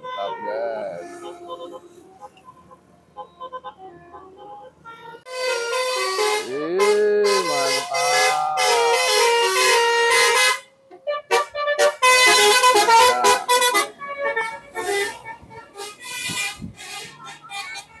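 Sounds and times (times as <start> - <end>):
bus musical horn melody: 0.0 - 18.0.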